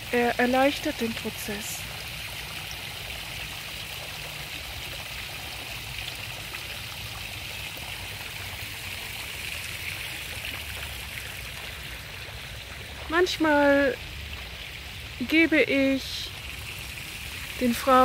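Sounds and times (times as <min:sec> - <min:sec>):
fountain jets splashing: 0:00.0 - 0:18.0.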